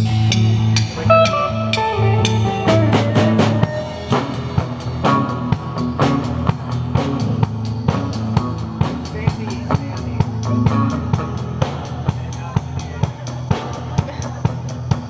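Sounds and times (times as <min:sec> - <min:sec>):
bass guitar: 0:00.0 - 0:15.0
drum kit: 0:00.0 - 0:15.0
electric guitars: 0:00.0 - 0:15.0.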